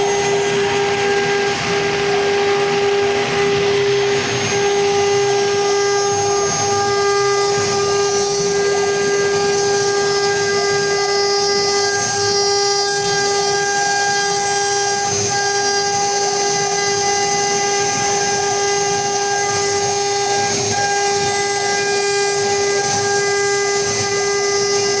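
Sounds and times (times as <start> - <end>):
router spindle motors whining: 0.0 - 25.0.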